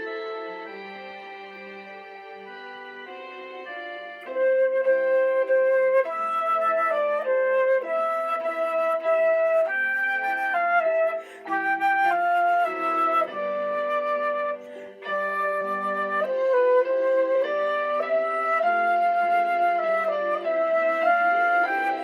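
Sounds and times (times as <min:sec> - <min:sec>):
electronic keyboard flute melody: 0:00.0 - 0:22.0
sustained accompaniment notes: 0:00.0 - 0:22.0.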